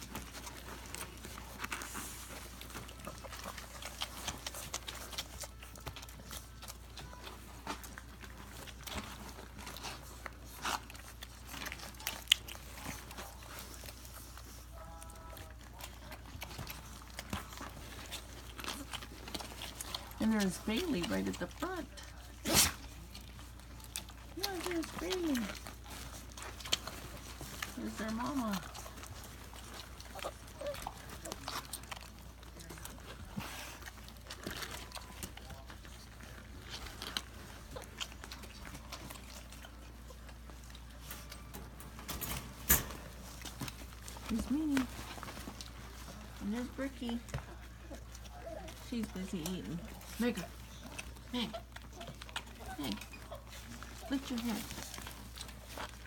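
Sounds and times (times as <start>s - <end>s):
puppies suckling: 0.0s - 56.0s.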